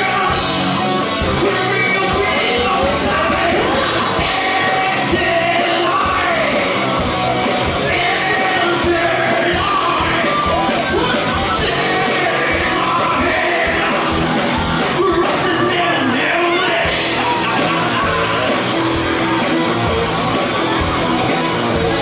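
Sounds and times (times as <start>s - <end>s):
amplified vocals: 0.0s - 19.4s
bass guitar: 0.0s - 22.0s
electric guitar: 0.0s - 22.0s.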